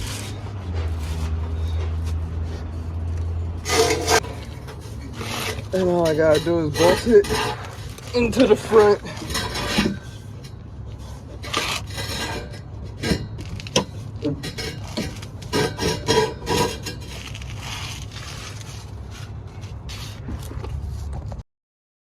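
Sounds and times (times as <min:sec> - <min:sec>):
metal tools clinking and scraping: 0:00.0 - 0:18.6.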